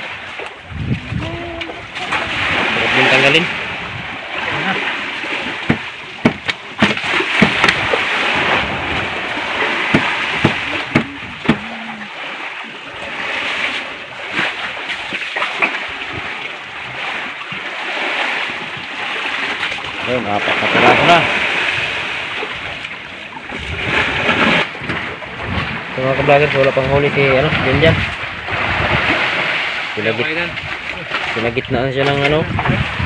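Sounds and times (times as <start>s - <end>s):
water splashing around boat: 0.0s - 33.0s.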